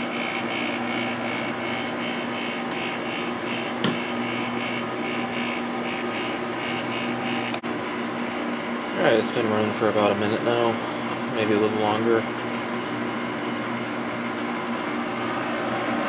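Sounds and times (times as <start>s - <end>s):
window air conditioner humming: 0.0s - 16.0s.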